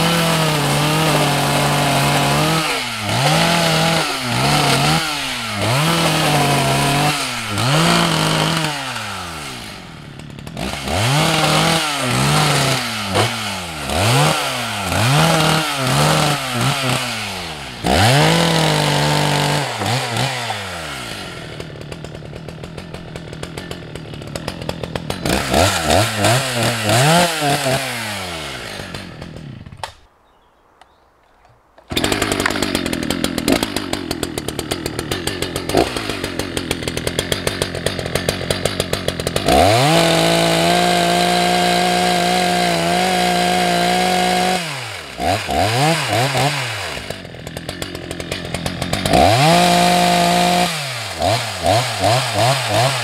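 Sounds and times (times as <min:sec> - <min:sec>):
chainsaw revving and idling: 0:00.0 - 0:30.1, 0:31.8 - 0:53.0.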